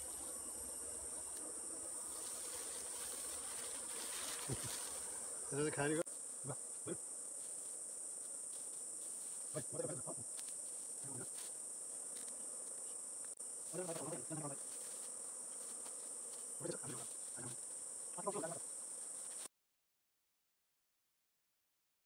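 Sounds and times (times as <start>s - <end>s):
high-pitched insect chorus: 0.0s - 19.5s.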